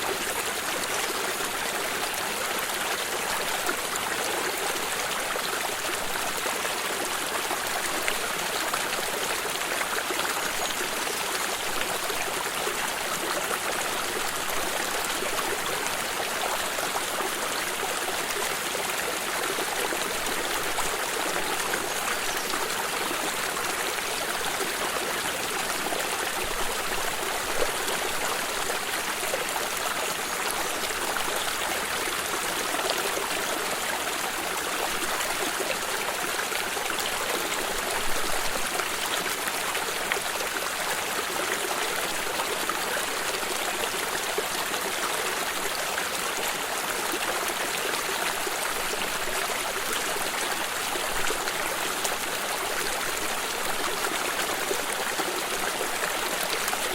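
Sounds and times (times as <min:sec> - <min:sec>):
stream water flowing: 0:00.0 - 0:56.9.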